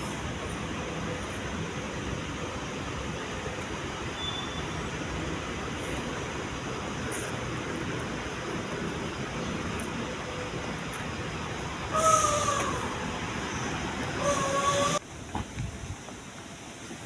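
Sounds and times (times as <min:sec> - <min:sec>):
city traffic noise: 0:00.0 - 0:17.0.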